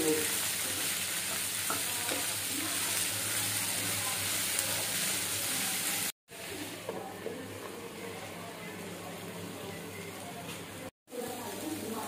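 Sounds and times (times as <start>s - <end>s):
okra sizzling in a pan: 0.0s - 12.0s.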